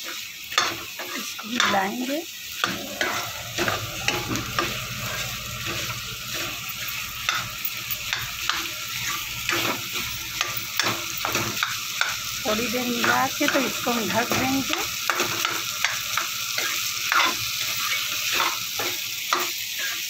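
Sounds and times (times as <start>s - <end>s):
masala sizzling: 0.0s - 20.0s
steel spoon scraping metal pan: 0.0s - 20.0s.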